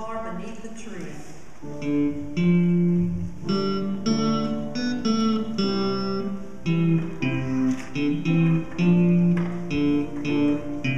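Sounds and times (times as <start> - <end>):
acoustic guitar slow tune: 1.6 - 10.9.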